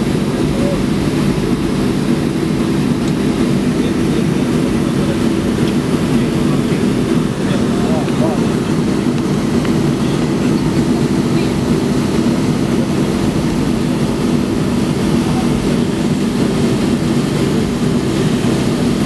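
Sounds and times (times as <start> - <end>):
jet engines rumbling in cabin: 0.0 - 19.0.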